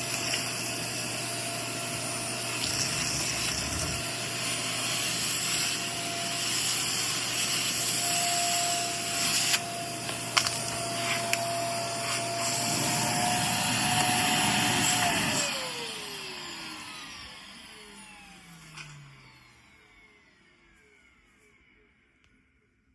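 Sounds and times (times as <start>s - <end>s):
vacuum cleaner motor whining: 0.0s - 22.1s.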